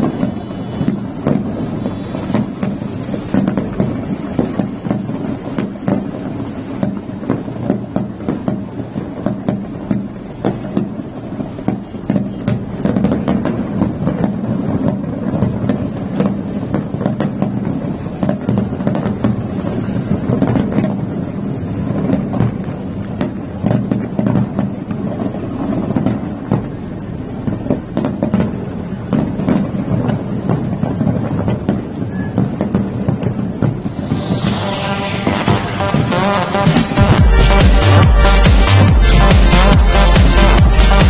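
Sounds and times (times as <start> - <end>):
distant fireworks bangs and crackles: 0.0 - 41.0.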